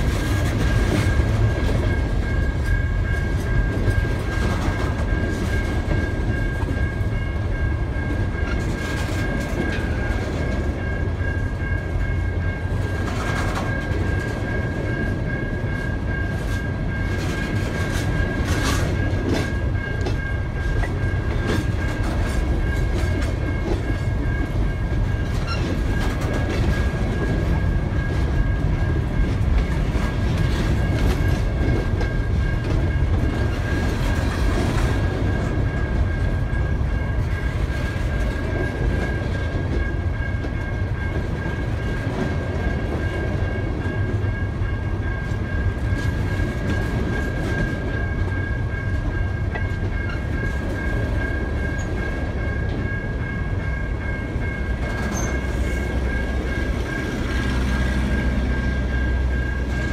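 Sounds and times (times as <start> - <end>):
train wheels rumbling on rail: 0.0 - 59.9
wheels clicking over rail joints: 0.0 - 59.9.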